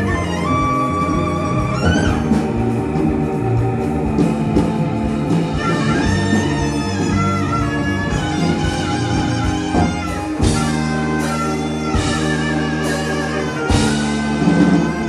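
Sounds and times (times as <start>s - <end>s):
bass and keyboard accompaniment: 0.0s - 15.0s
sliding lead melody: 0.0s - 15.0s.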